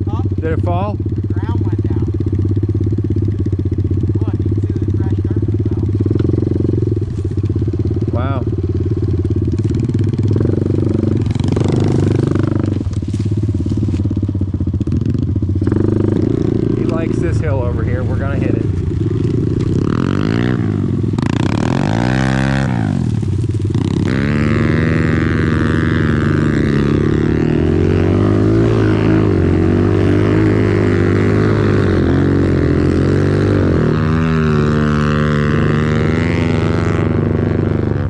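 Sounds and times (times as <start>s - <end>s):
off-road vehicle engine revving: 0.0s - 38.0s.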